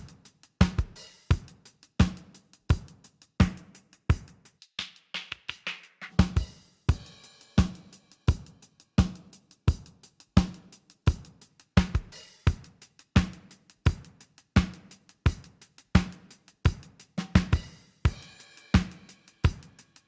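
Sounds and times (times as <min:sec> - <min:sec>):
drum kit groove: 0:00.0 - 0:20.0
hi-hat and cymbal strokes: 0:00.0 - 0:20.0.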